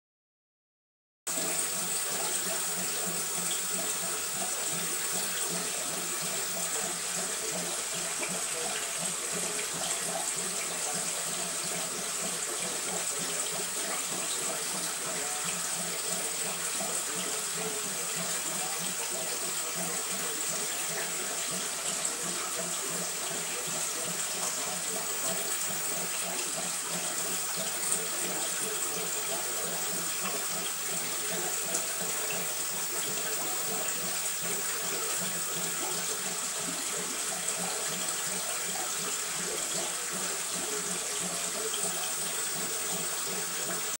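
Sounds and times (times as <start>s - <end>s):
aquarium water running: 1.3s - 44.0s.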